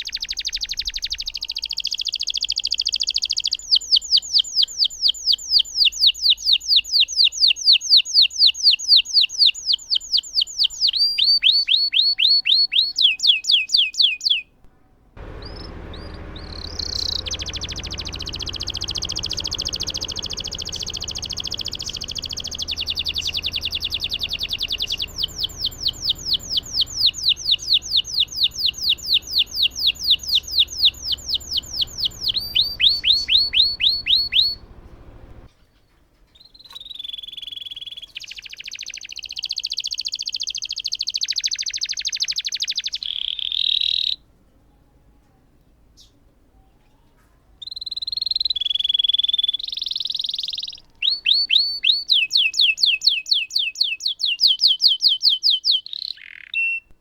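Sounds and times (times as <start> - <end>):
canary singing: 0.0 - 14.6, 15.2 - 35.5, 36.5 - 44.2, 47.6 - 57.0.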